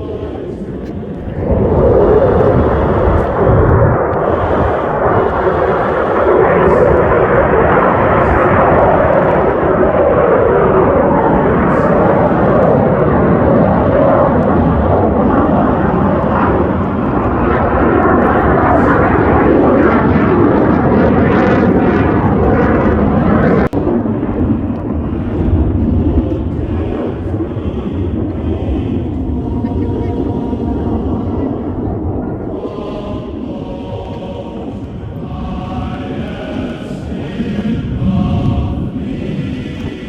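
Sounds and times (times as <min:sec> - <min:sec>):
jets flying past: 0:00.0 - 0:40.0.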